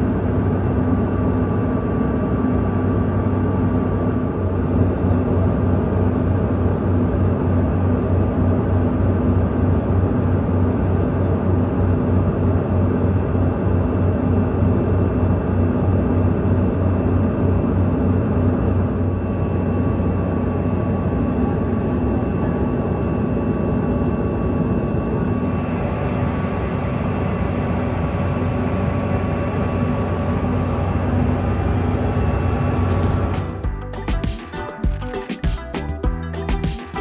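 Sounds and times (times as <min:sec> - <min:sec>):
jet engine drone: 0:00.0 - 0:33.7
steady hum tones: 0:00.0 - 0:35.0.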